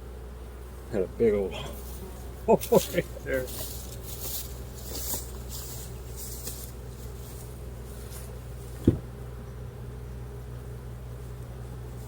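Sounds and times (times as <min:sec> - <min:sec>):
bees humming: 0:00.0 - 0:12.0
hive frames rustling: 0:00.0 - 0:12.0.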